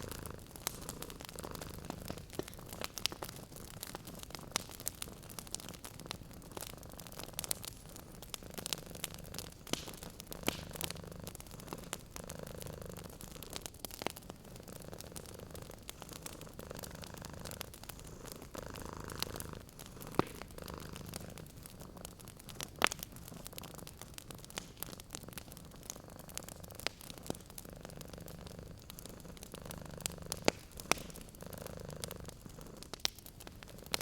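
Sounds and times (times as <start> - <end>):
cat purring: 0.0 - 34.0
wood fire popping: 0.0 - 34.0.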